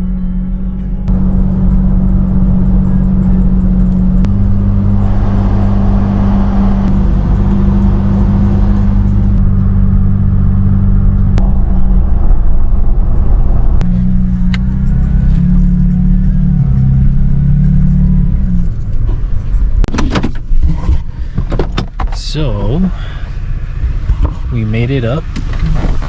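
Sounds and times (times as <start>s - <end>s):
engine drone inside vehicle: 0.0s - 26.0s
road and wind noise: 0.0s - 26.0s.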